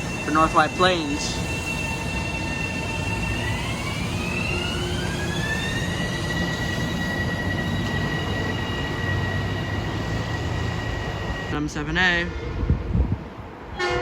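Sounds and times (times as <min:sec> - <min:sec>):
electric train motors whining: 0:00.0 - 0:11.6
train rumbling on rails: 0:00.0 - 0:14.0.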